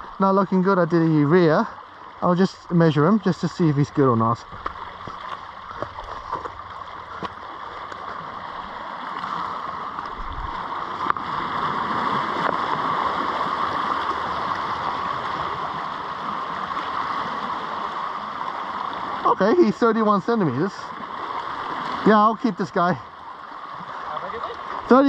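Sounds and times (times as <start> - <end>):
water rushing among rocks: 0.0 - 25.0.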